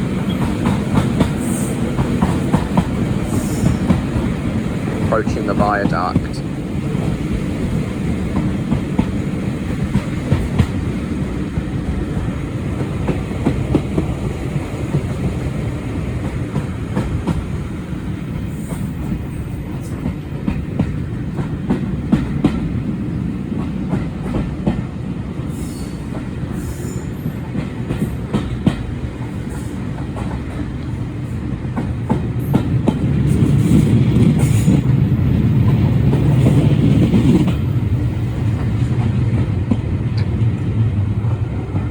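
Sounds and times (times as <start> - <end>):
train coaches rumbling: 0.0 - 41.9.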